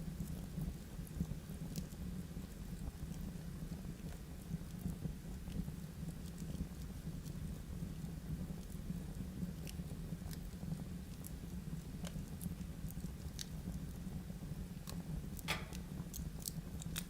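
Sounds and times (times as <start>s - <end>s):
fire crackles and pops: 0.0s - 17.0s
fire flame rumble: 0.0s - 17.0s.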